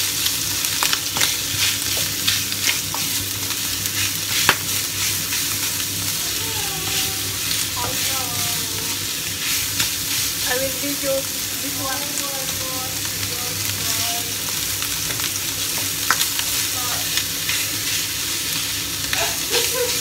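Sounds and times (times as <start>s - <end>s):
meat sizzling in a wok: 0.0s - 20.0s.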